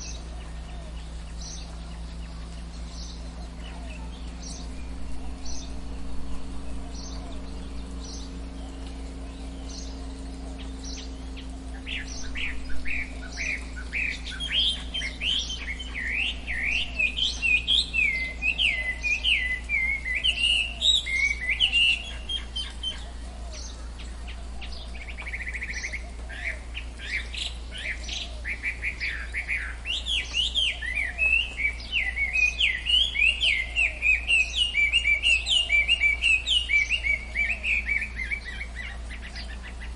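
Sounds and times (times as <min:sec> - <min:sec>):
buzzy bird trill: 0:00.0 - 0:39.9
forest birds calling: 0:00.0 - 0:39.9
steady low hum: 0:00.0 - 0:39.9.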